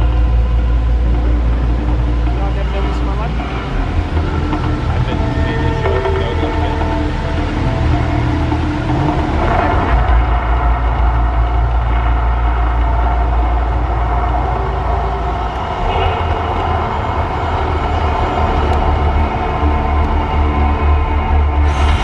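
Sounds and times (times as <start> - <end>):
deep eruption rumble: 0.0 - 22.0
dramatic soundtrack music: 0.0 - 22.0.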